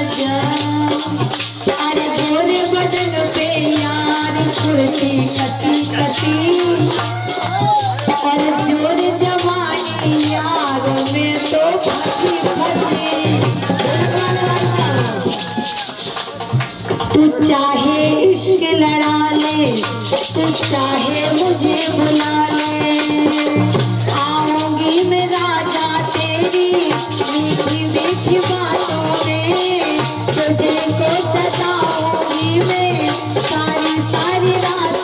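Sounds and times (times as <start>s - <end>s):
woman singing: 0.0s - 15.7s, 17.1s - 35.0s
shaken rattle percussion: 0.0s - 17.1s, 19.3s - 35.0s
folk melody over drum: 0.0s - 35.0s.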